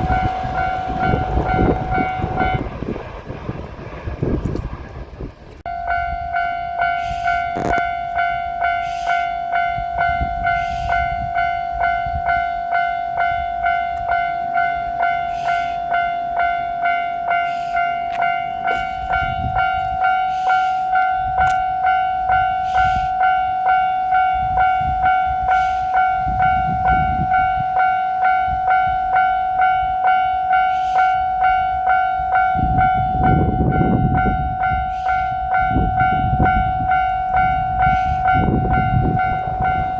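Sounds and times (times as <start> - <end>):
level-crossing warning bell ringing: 0.0 - 4.3, 5.5 - 39.9.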